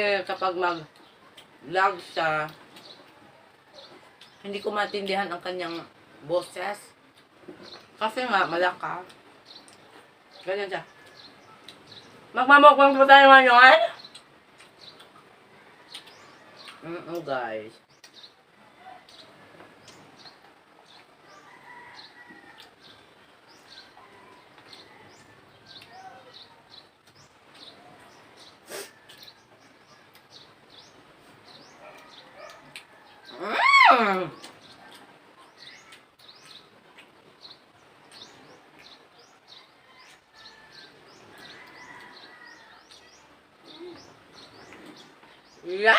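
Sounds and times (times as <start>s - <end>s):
birds chirping: 0.0s - 45.9s
faint background noise: 0.0s - 45.9s.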